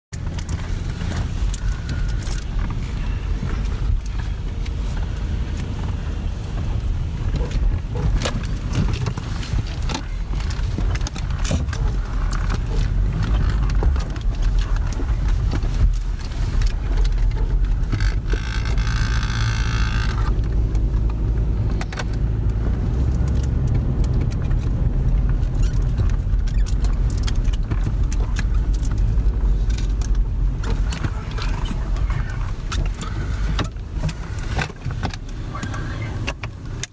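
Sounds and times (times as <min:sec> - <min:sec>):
engine rumble inside cabin: 0:00.1 - 0:36.9
truck rattling over rocks: 0:00.1 - 0:36.9.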